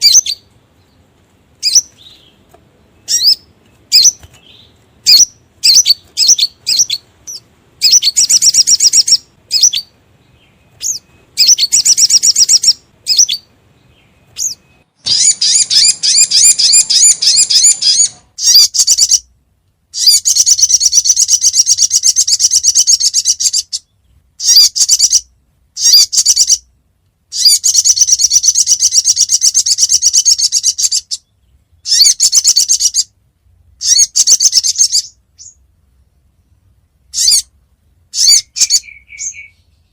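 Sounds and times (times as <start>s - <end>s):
bird trilling: 0.0s - 0.5s, 1.6s - 2.4s, 3.0s - 19.3s, 20.0s - 26.7s, 27.3s - 33.1s, 33.8s - 35.6s, 37.1s - 39.8s.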